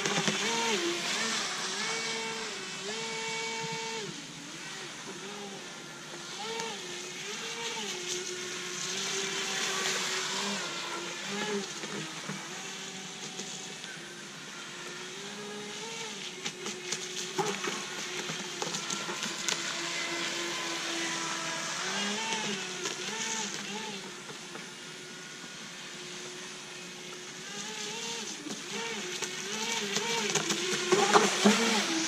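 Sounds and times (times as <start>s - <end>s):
model boat motor whining: 0.0s - 32.0s.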